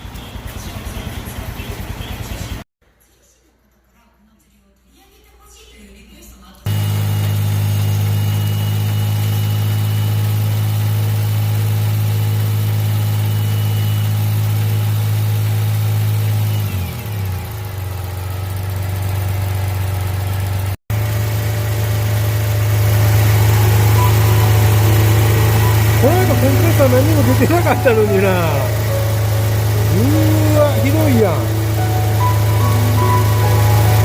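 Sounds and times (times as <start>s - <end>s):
car engine idling: 6.7s - 34.0s.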